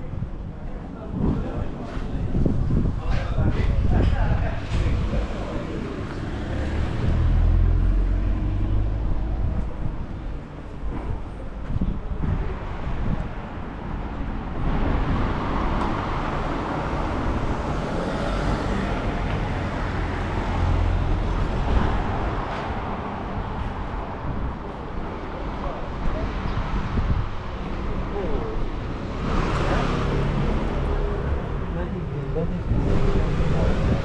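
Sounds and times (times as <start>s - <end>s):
vehicles passing by: 0.0s - 34.0s.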